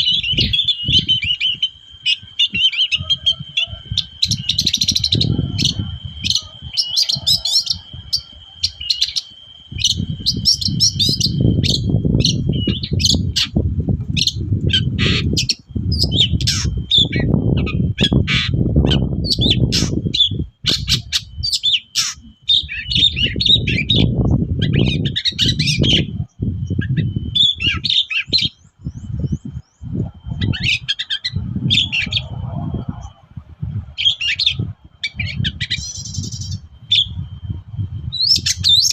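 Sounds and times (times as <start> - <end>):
shrike chattering song: 0.0 - 37.1
thin steady high tone: 0.0 - 38.9.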